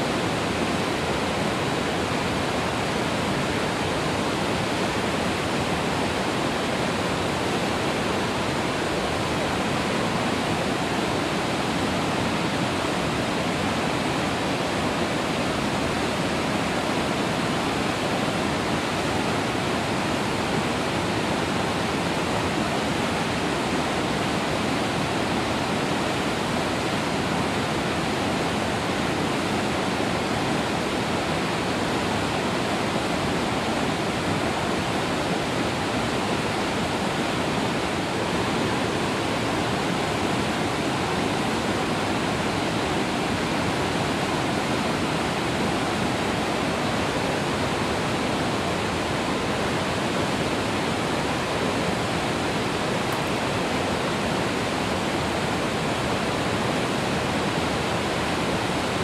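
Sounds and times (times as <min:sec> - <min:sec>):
waterfall rushing over boulders: 0:00.0 - 0:59.0.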